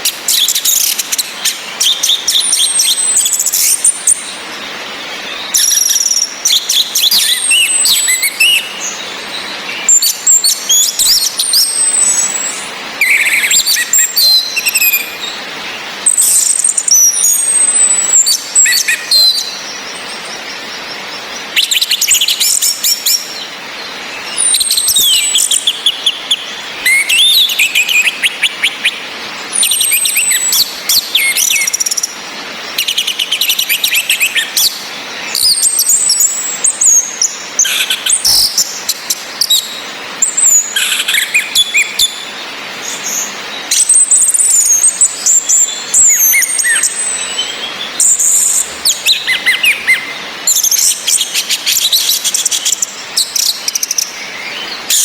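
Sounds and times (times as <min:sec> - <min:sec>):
thrushes chirping and whistling: 0:00.0 - 0:15.4, 0:16.0 - 0:55.0
rain hiss: 0:00.0 - 0:55.0.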